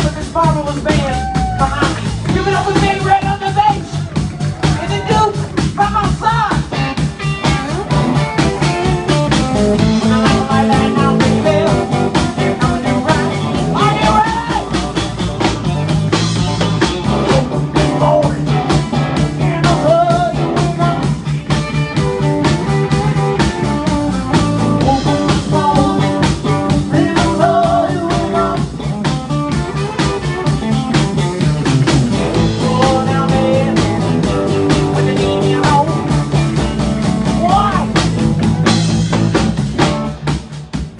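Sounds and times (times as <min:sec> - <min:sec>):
drum kit: 0:00.0 - 0:40.9
electric bass: 0:00.0 - 0:40.9
electric guitar with bent notes: 0:00.0 - 0:40.9.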